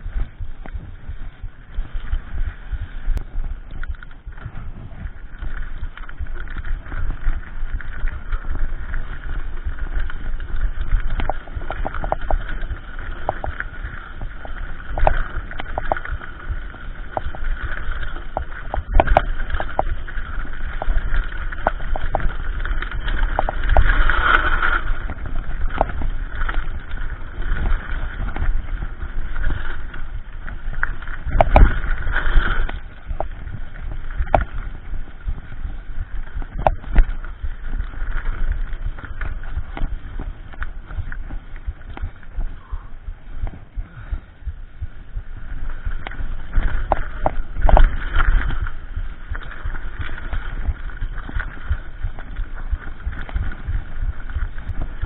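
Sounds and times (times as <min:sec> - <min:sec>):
bike rattling clicks and knocks: 0:00.0 - 0:55.0
wind and tyre noise: 0:00.0 - 0:55.0.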